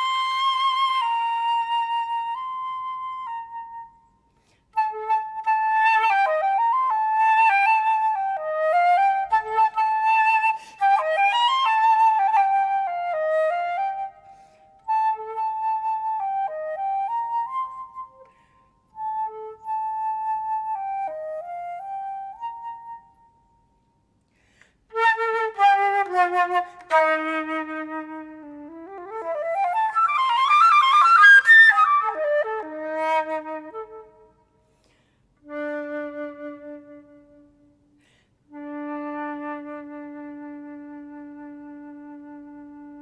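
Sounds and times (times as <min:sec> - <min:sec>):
solo flute playing: 0:00.0 - 0:24.0, 0:24.9 - 0:34.7, 0:35.4 - 0:37.9, 0:38.5 - 0:43.0.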